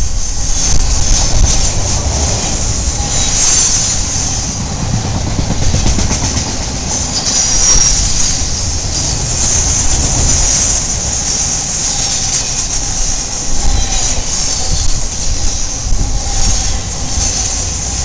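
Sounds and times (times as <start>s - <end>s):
high wheel squeal: 0.0s - 4.8s, 6.7s - 18.0s
steel wheels on rail: 0.0s - 18.0s.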